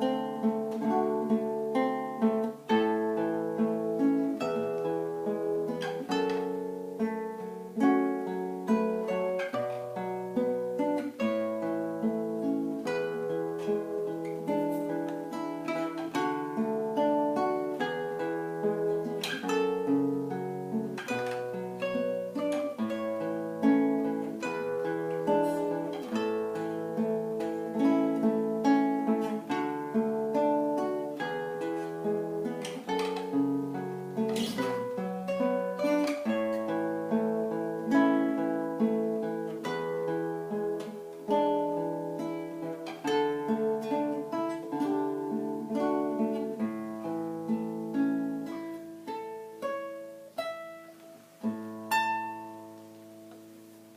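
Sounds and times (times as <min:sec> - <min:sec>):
acoustic guitar playing: 0:00.0 - 0:53.9.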